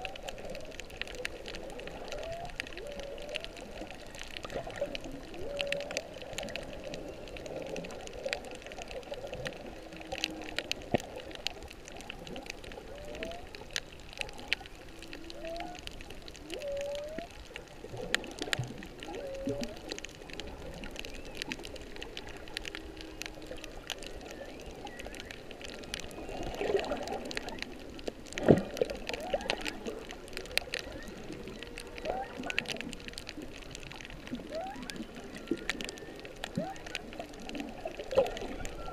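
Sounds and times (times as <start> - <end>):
crackle of clicks: 0.0 - 38.9
whale song moans and calls: 0.0 - 38.9.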